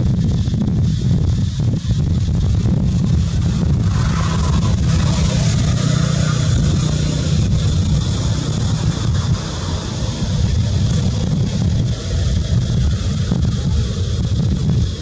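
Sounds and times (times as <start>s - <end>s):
even hiss: 0.0s - 15.0s
loud low rumble: 0.0s - 15.0s.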